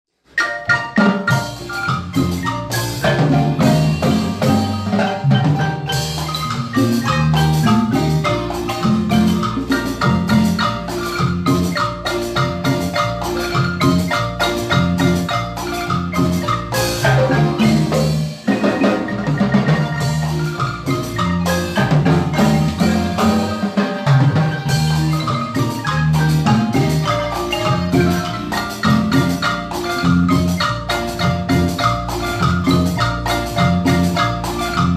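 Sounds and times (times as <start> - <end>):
marimba ensemble playing: 0.2 - 34.9.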